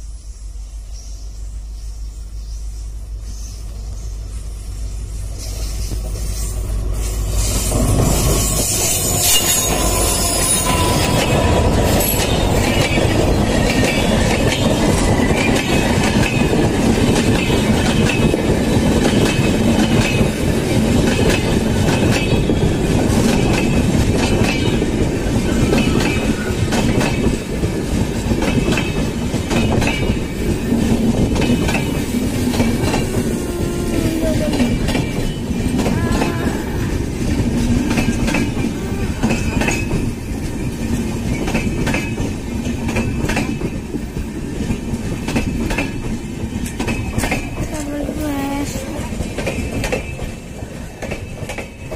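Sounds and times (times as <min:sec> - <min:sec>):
train wheels rumbling on rail: 0:00.0 - 0:51.9
clickety-clack over rail joints: 0:05.3 - 0:51.9.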